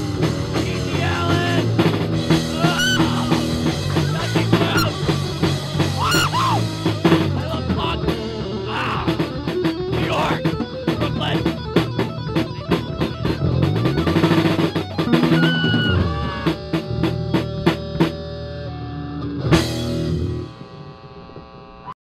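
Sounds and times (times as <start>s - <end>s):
rock band playing: 0.0s - 20.7s.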